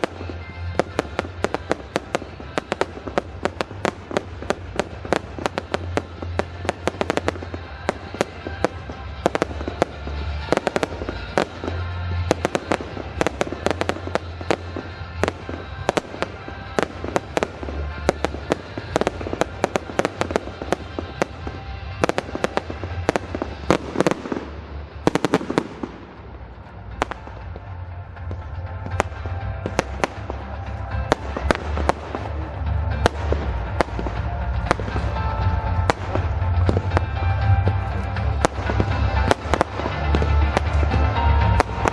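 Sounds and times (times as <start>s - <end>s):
fireworks bangs and crackling: 0.0s - 41.9s
music playing: 0.0s - 41.9s.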